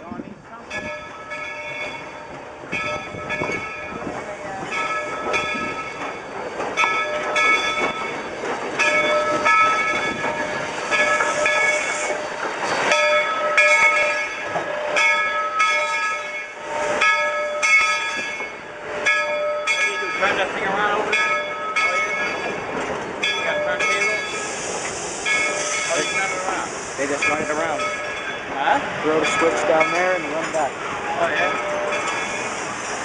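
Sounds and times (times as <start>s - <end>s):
locomotive bell ringing: 0.0s - 32.7s
train wheels clicking over rail joints: 0.7s - 33.0s.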